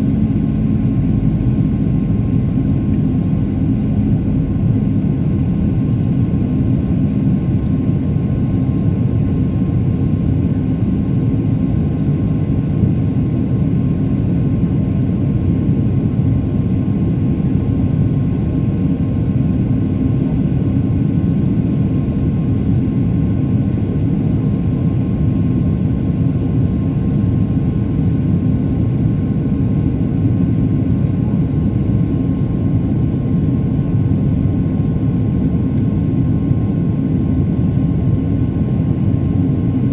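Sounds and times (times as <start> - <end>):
aircraft engines droning: 0.0 - 39.9
faint engine whine: 0.0 - 39.9.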